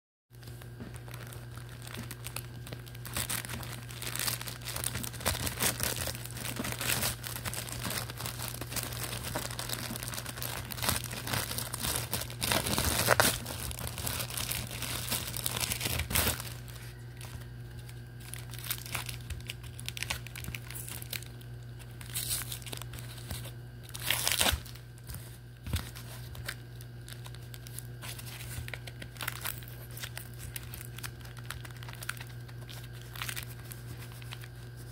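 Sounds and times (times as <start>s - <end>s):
plastic mailer bag tearing: 0.4s - 34.9s.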